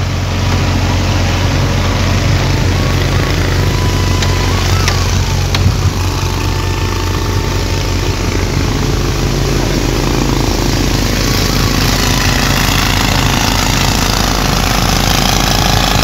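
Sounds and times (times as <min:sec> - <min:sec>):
heavy machinery engine idling: 0:00.0 - 0:16.0.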